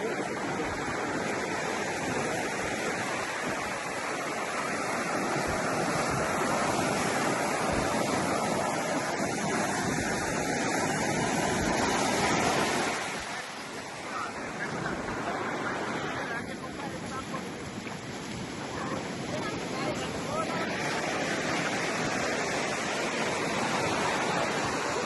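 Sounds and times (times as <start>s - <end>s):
ocean waves washing: 0.0s - 25.0s.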